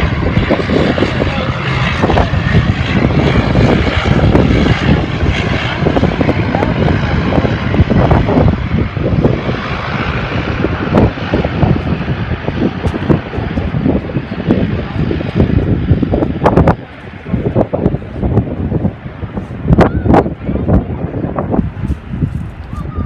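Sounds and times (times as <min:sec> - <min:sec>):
jet engines at high thrust: 0:00.0 - 0:23.0.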